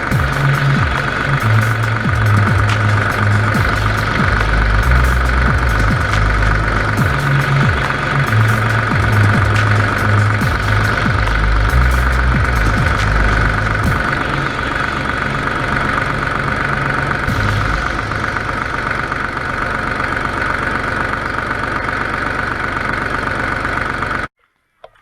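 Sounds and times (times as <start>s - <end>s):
low rumble: 0.0s - 22.1s
high hum: 0.0s - 23.3s
engine running steadily: 0.0s - 24.3s.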